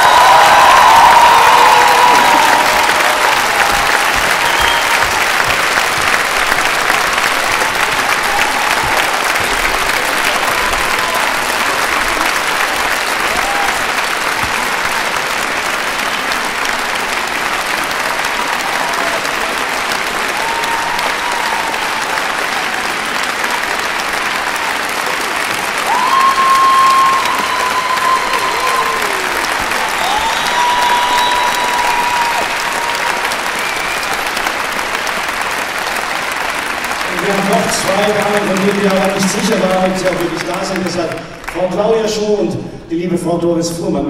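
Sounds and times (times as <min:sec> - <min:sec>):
audience applauding: 0:00.0 - 0:42.5.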